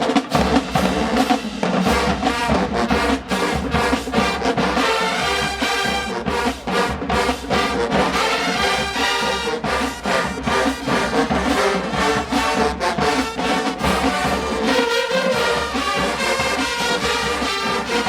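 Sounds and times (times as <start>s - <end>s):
brass section playing: 0.0s - 18.0s
drums keeping a steady beat: 0.0s - 18.0s.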